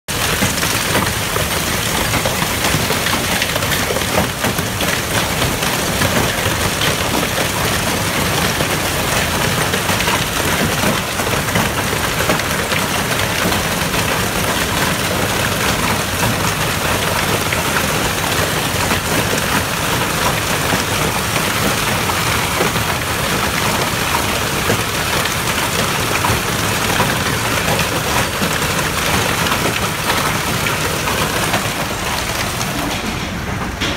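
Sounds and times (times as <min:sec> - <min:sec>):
hailstones clicking: 0:00.1 - 0:33.2
hail and rain hissing: 0:00.1 - 0:33.9.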